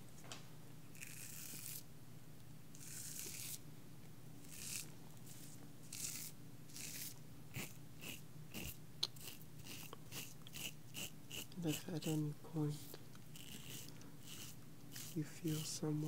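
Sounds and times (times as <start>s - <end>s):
razor scraping shaving cream: 1.0s - 1.8s, 2.8s - 3.6s, 4.4s - 16.0s.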